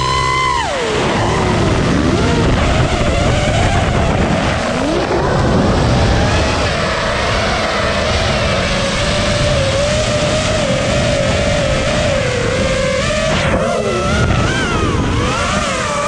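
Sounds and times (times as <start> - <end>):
motocross bike engine: 0.0 - 16.0
wind buffeting microphone: 0.0 - 16.0.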